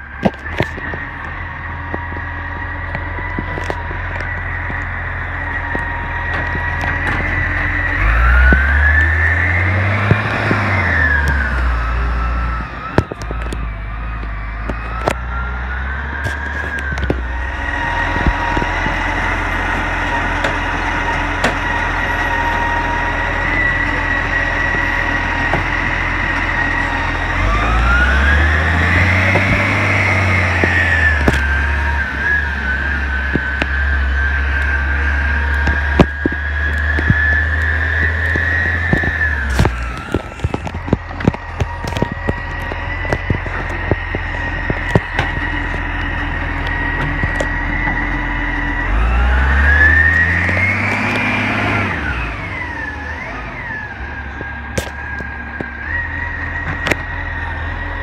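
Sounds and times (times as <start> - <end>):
garbage truck diesel engine: 0.0 - 58.0
high whine: 0.0 - 58.0.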